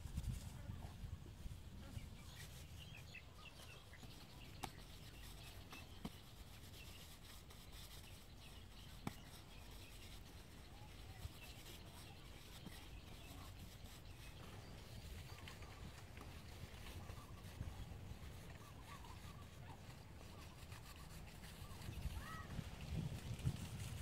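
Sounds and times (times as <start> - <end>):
faint bird chirps: 1.8 - 23.1.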